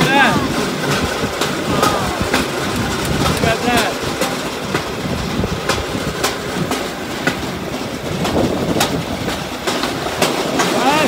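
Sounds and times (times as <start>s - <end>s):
steel wheels rumbling on track: 0.0s - 11.0s
wheels clicking over rail joints: 0.0s - 11.0s.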